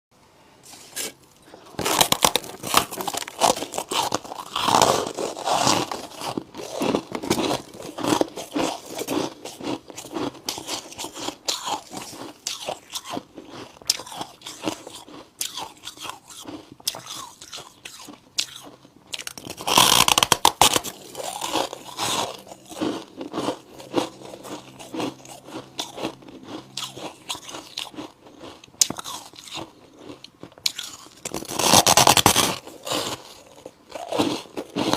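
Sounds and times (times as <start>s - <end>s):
person crunching ice: 0.8s - 34.9s.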